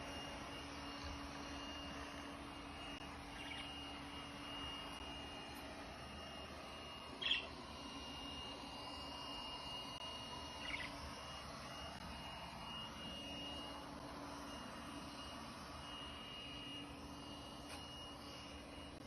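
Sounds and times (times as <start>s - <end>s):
machine drone with whine and hum: 0.0s - 19.0s.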